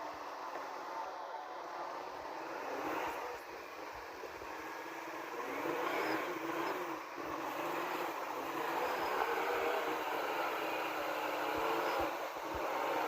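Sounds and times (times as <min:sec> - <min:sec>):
off-road vehicle engine under load: 0:00.0 - 0:13.0.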